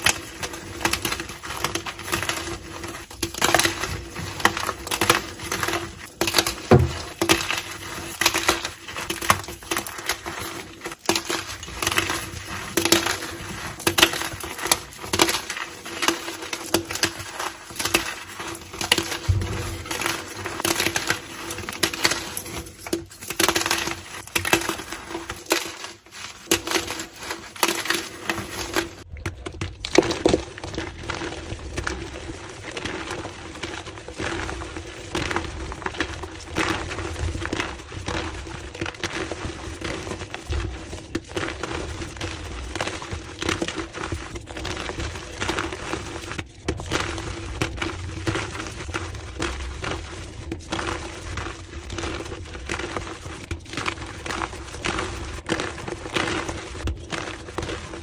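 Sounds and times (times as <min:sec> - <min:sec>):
chalk blocks crunching: 0:00.0 - 0:58.0.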